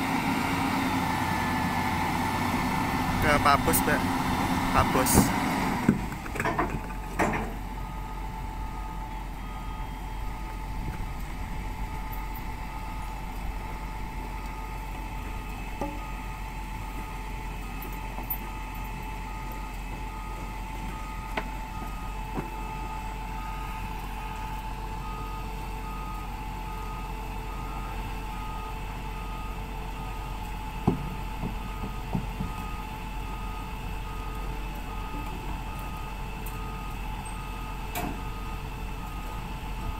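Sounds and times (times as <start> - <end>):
diesel engine running: 0.0 - 39.9
reversing alarm beeping: 7.5 - 39.9.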